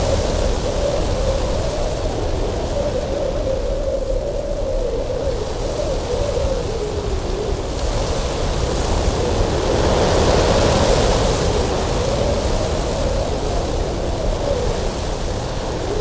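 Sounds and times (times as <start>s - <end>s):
strong gusty wind: 0.0s - 16.0s.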